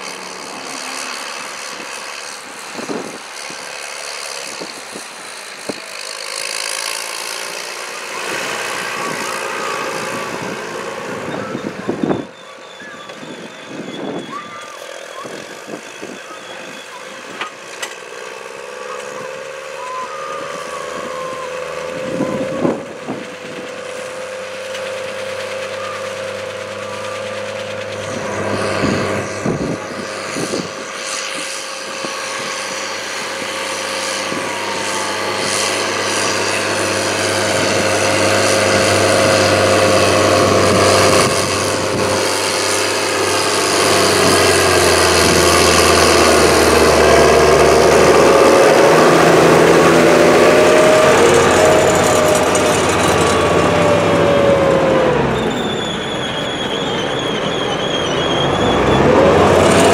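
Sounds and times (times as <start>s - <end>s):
steady whine: 0.0s - 59.9s
tractor diesel engine under load: 0.0s - 59.9s.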